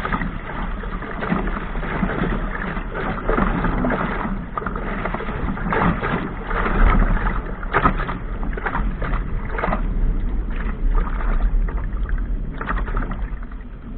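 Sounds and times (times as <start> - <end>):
water splashing against hull: 0.0 - 13.9
wind rumble on microphone: 0.0 - 13.9.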